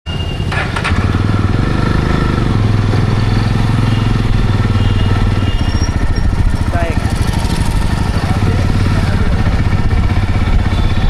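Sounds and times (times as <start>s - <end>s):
motorcycle engine running: 0.5s - 11.0s.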